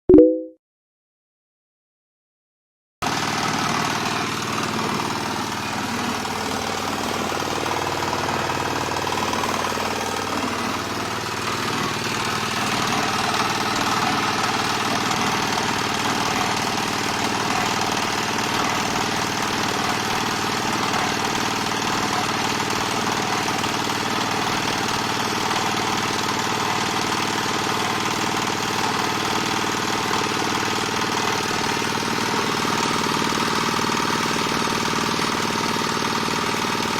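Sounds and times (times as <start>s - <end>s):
diesel engine running under load: 3.0s - 36.9s.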